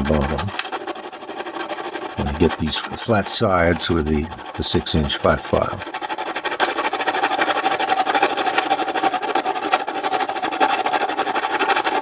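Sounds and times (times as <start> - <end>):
metal file rasping on metal: 0.0 - 12.0.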